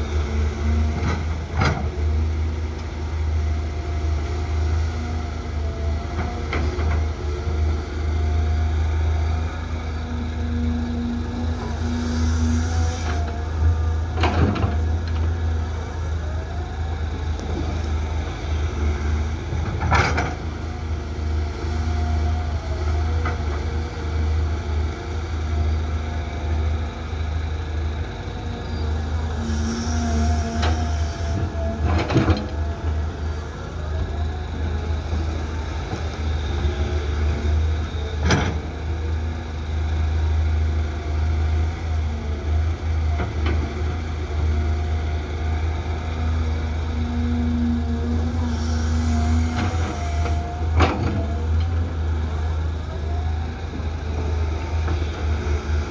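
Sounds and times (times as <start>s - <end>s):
excavator diesel engine under load: 0.0s - 55.9s.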